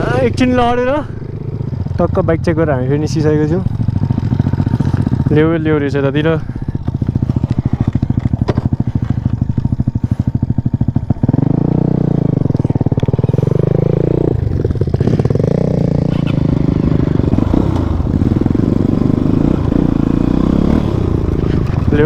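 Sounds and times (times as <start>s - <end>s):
motorcycle engine chugging: 0.0s - 22.0s.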